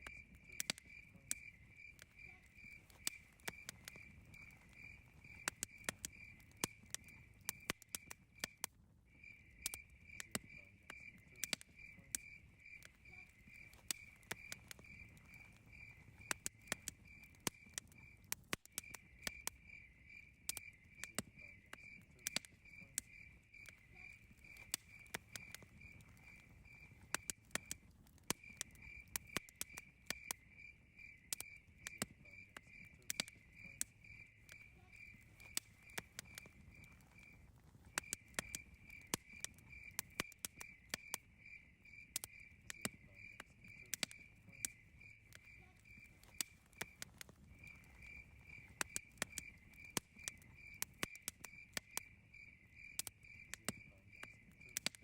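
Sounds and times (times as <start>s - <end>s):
campfire crackling and popping: 0.0s - 55.0s
crickets chirping: 0.0s - 55.0s
low rumble of burning fire: 0.0s - 55.0s.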